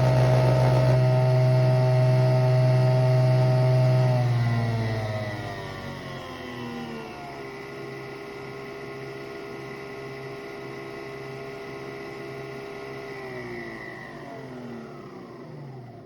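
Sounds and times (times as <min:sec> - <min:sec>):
coffee machine motor whine: 0:00.0 - 0:16.0.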